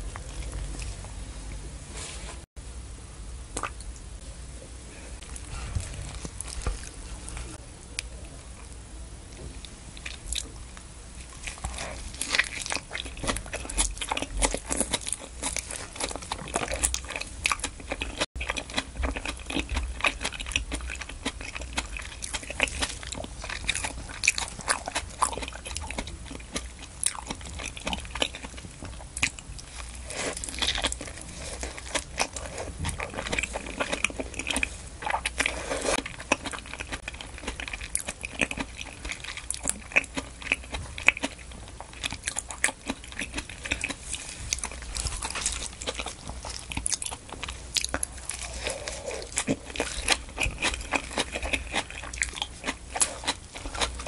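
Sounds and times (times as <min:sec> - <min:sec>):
crunchy chewing of salad: 0:00.0 - 0:02.4, 0:05.2 - 0:54.0.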